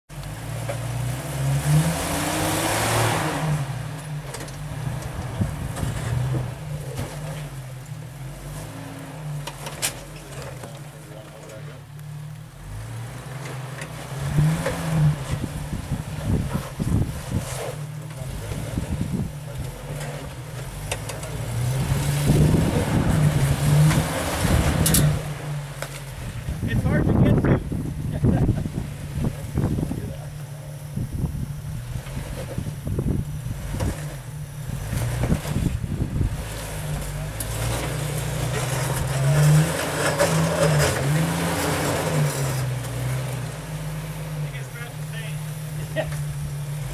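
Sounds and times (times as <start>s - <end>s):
buggy engine revving: 0.1s - 46.9s.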